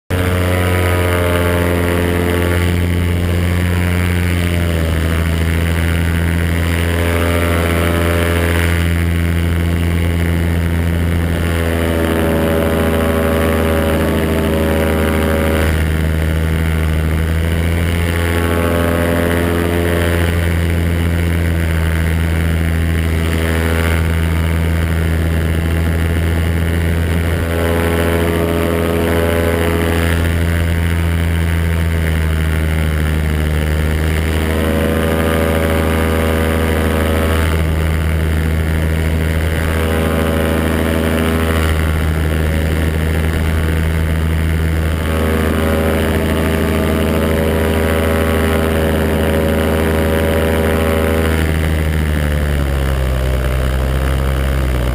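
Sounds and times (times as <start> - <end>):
paramotor engine and propeller: 0.0 - 54.9.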